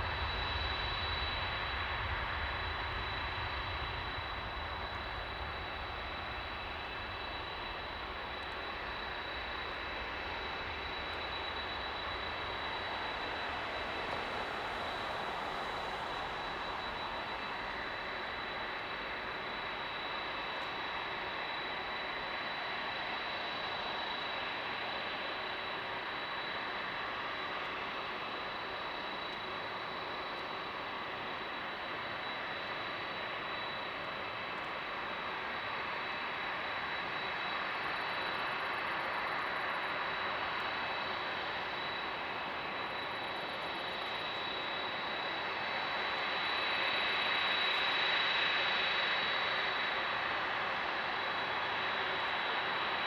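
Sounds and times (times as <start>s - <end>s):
jet engines roaring with whine: 0.0s - 53.0s.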